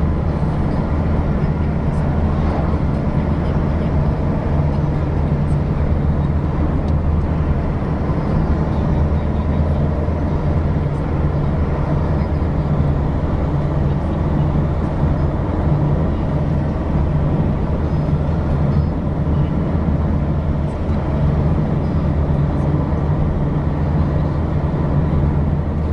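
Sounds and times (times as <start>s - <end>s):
car engine drone: 0.0s - 25.9s
tyre and road noise: 0.0s - 25.9s.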